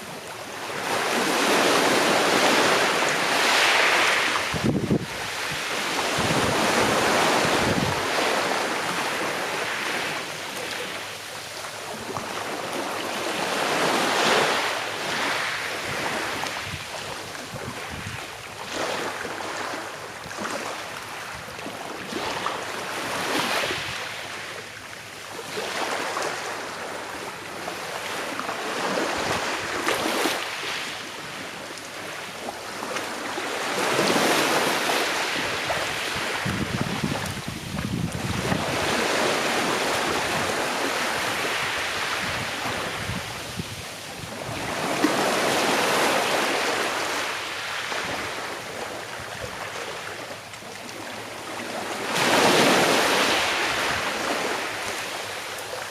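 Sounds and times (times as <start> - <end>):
sea waves washing onto shore: 0.0 - 55.9.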